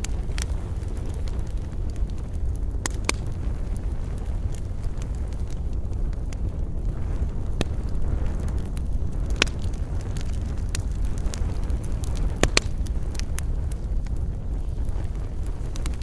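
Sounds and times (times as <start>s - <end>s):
campfire crackling and popping: 0.0s - 16.0s
low rumble: 0.0s - 16.0s.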